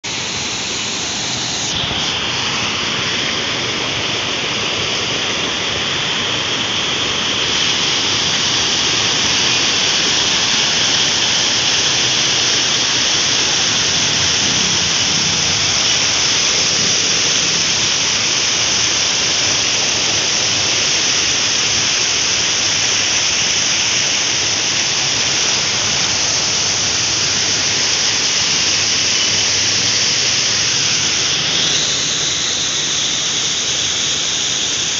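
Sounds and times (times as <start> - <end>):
water rushing over overflow onto rocks: 0.0 - 34.9.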